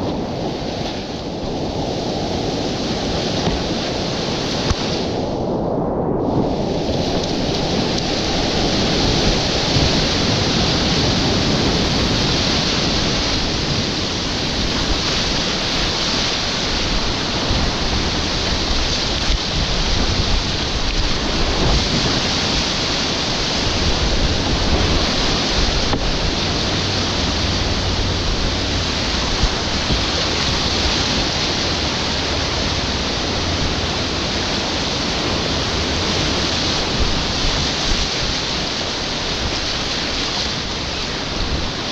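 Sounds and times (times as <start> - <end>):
water splashing: 0.0 - 5.5, 6.3 - 41.9
whitewater rapids rushing: 0.0 - 5.8, 6.4 - 41.9
wind buffeting microphone: 0.0 - 41.9.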